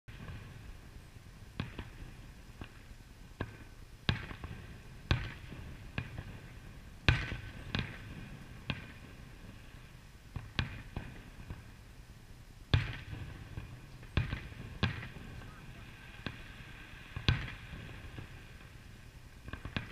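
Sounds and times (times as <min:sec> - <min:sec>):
fireworks bursting: 0:00.1 - 0:19.9.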